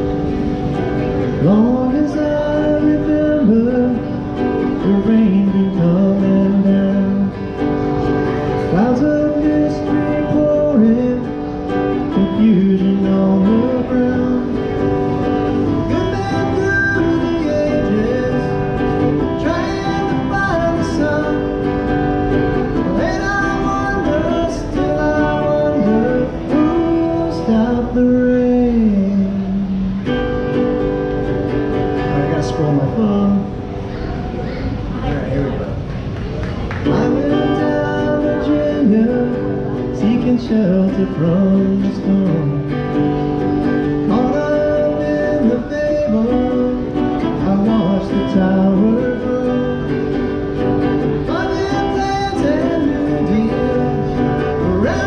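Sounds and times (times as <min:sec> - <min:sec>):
acoustic guitar: 0:00.0 - 0:55.0
man singing: 0:01.2 - 0:30.2, 0:31.9 - 0:33.6, 0:36.8 - 0:55.0.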